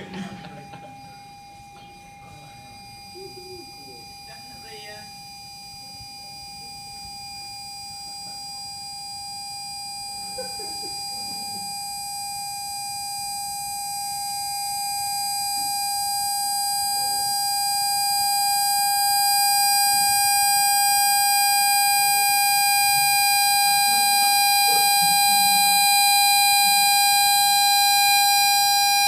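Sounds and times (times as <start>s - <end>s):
loud pure tone: 0.0s - 29.0s.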